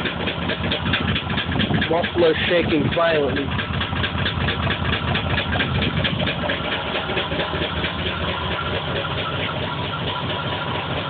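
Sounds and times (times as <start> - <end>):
car engine idling roughly: 0.0 - 11.0
exhaust rattling: 0.0 - 11.0.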